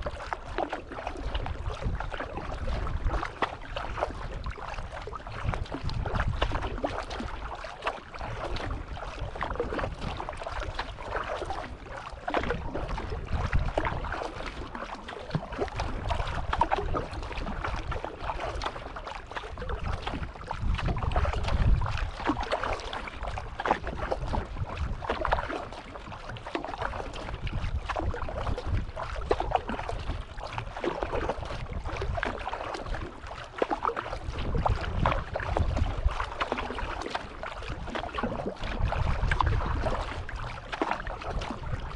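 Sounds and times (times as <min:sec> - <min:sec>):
paddle strokes splashing: 0:00.0 - 0:41.9
water washing along a hull: 0:00.0 - 0:41.9
wind rumbling on microphone: 0:00.0 - 0:41.9.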